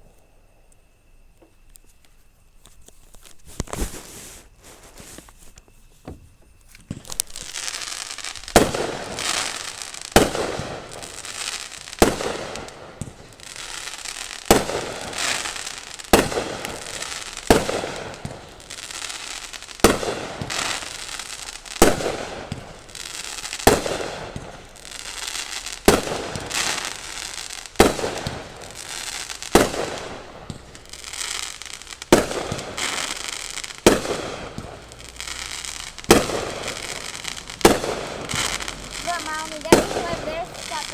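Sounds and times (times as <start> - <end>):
fireworks banging and crackling: 2.6 - 40.9.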